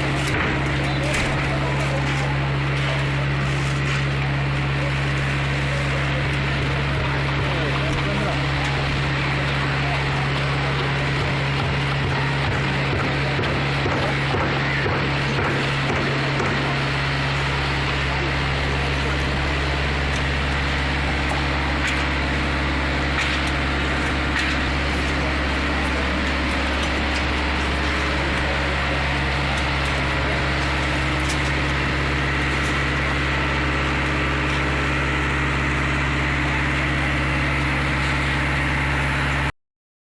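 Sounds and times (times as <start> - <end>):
concrete mixer engine running: 0.0 - 39.5.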